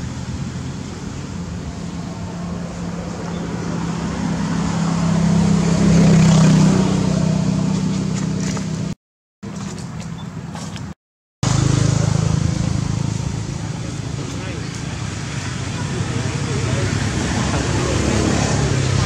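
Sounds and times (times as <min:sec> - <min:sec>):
outdoor background noise: 0:00.0 - 0:19.0
passing vehicle engine hum: 0:00.0 - 0:19.0.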